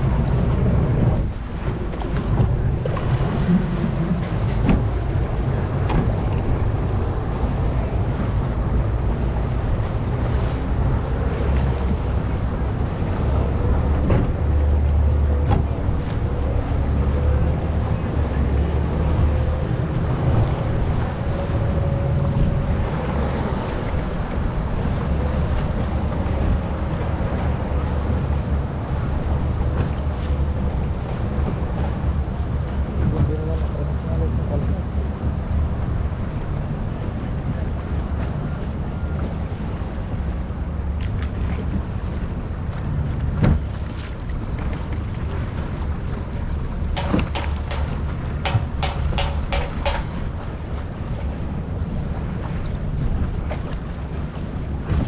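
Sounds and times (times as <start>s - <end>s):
motorboat engine rumbling: 0.0s - 55.0s
water washing past hull: 0.0s - 55.0s
wind buffeting microphone: 0.0s - 55.0s.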